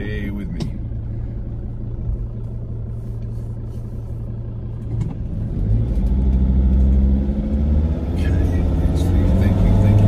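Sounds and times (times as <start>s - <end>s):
car engine and road drone: 0.0s - 10.0s.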